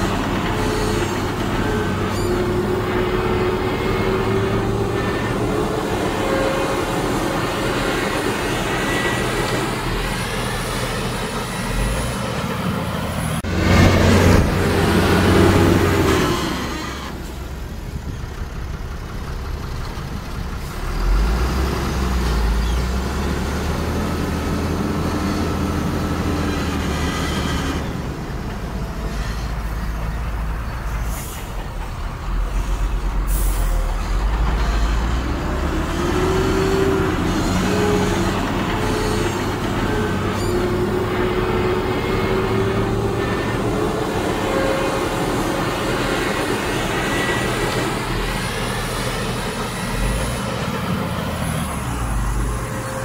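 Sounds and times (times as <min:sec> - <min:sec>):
heavy diesel machinery revving: 0:00.0 - 0:53.0.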